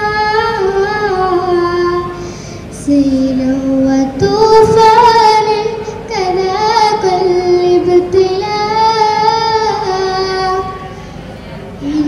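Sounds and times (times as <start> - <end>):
girl singing unaccompanied: 0.0 - 11.0, 11.8 - 12.0.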